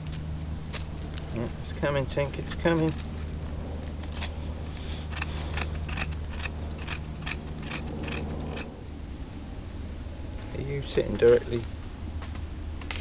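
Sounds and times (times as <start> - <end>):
campfire crackling: 0.0 - 13.0
steady low rumble: 0.0 - 13.0.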